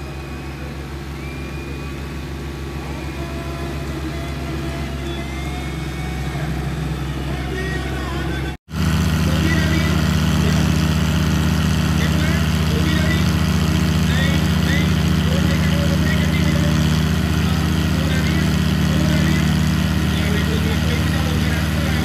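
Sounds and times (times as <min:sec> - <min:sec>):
tractor engines under full load: 0:00.0 - 0:22.0.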